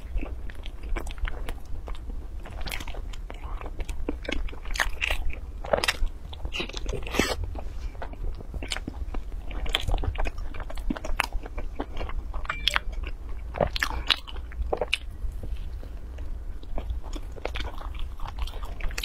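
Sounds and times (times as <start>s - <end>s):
person chewing pastry: 0.0s - 19.0s.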